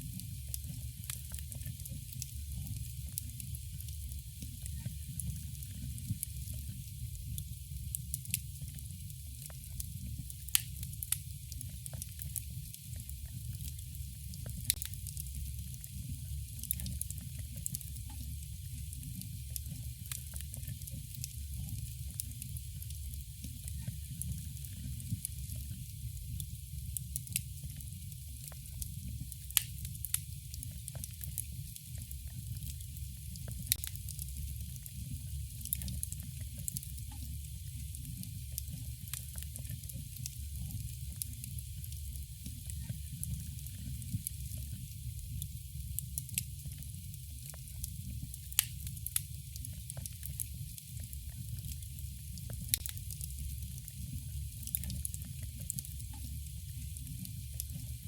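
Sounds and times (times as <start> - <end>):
campfire crackling and popping: 0.1 - 46.8, 47.4 - 57.8.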